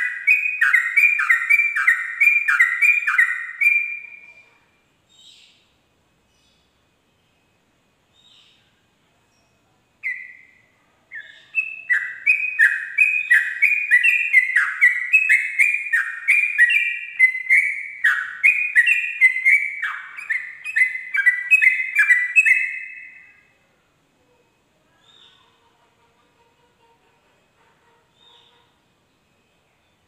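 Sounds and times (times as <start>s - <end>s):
bird singing: 0.0s - 23.6s, 24.9s - 25.8s.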